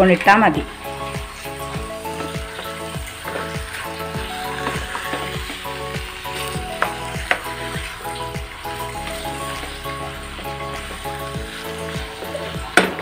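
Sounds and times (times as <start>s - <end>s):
background music with steady beat: 0.0s - 13.0s
food sizzling in a pot: 0.0s - 13.0s.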